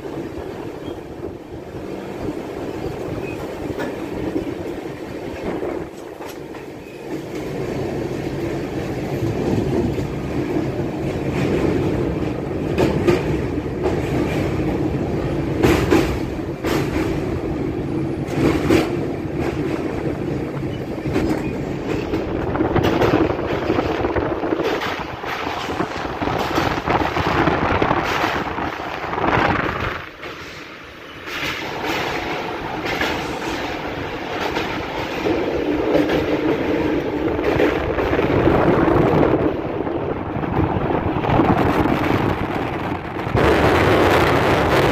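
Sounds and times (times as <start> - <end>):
train rumble: 0.0 - 44.9
wheels clacking over rail joints: 0.0 - 44.9.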